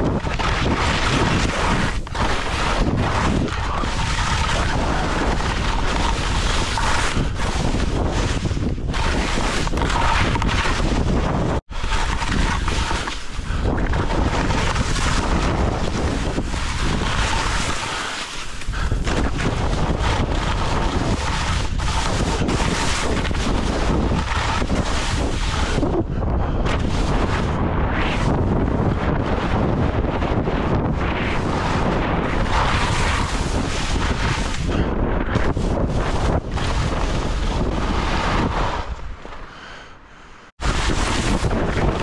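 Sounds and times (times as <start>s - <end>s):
wind buffeting microphone: 0.0s - 17.8s, 18.5s - 39.3s, 40.5s - 42.0s
skis scraping snow: 0.1s - 26.0s, 26.7s - 39.4s, 40.6s - 42.0s.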